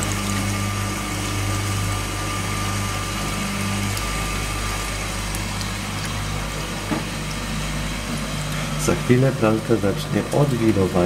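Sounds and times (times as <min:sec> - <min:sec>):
drain pump humming: 0:00.0 - 0:11.0
water running into sink: 0:00.0 - 0:11.0.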